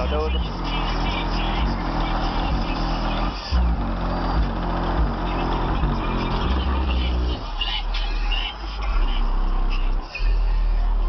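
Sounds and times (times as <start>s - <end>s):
deep bass music from car subwoofers: 0.0s - 11.0s.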